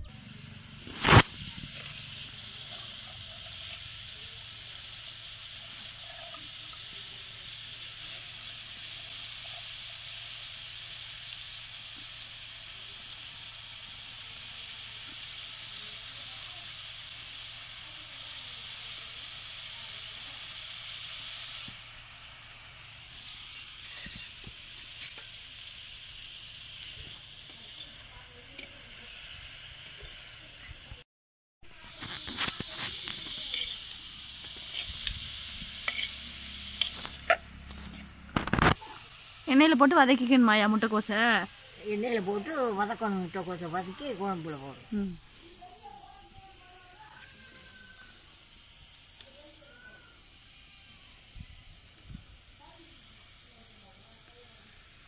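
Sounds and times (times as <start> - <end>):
cabbage sizzling in hot oil: 0.0 - 31.0, 31.7 - 55.0.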